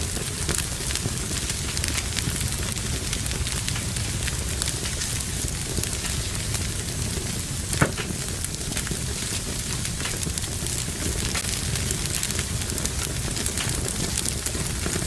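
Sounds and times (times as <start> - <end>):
loud pop of fire: 0.0 - 15.0
low rumble of flames: 0.0 - 15.0
wood fire crackling: 0.0 - 15.0.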